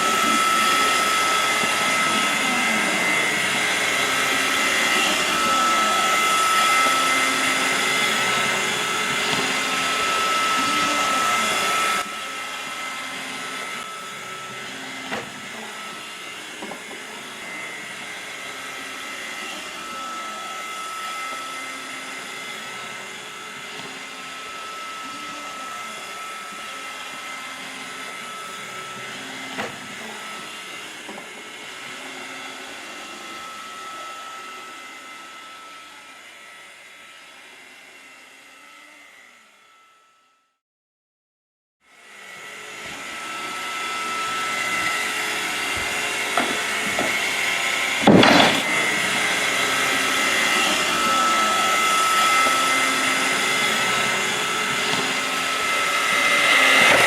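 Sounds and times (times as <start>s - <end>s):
robot vacuum cleaner whirring: 0.0s - 40.2s, 41.9s - 57.0s.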